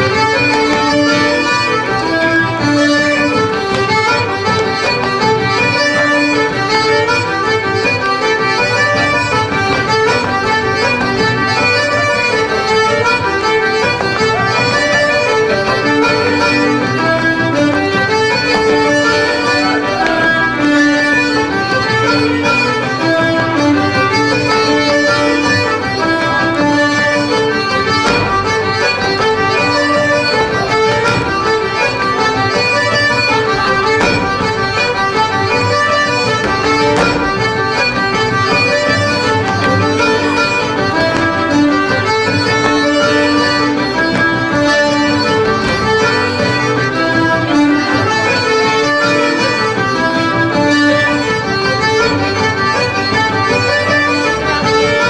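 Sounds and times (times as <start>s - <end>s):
fiddle: 0.0s - 55.0s
keyboard accompaniment: 0.0s - 55.0s.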